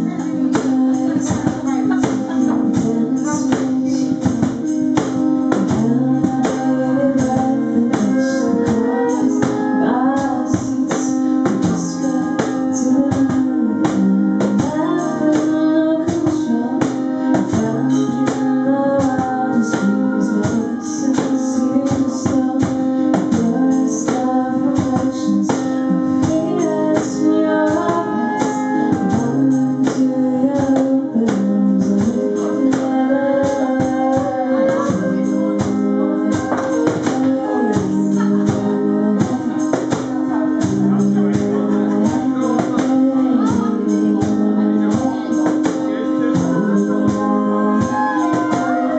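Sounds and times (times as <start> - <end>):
acoustic guitar strumming: 0.0 - 48.9
woman singing: 0.0 - 48.9.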